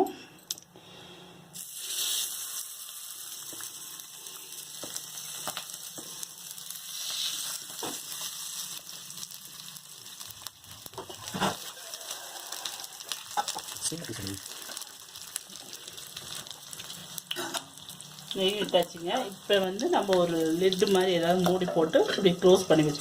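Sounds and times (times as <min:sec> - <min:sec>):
fish sizzling in a pan: 0:01.6 - 0:23.0.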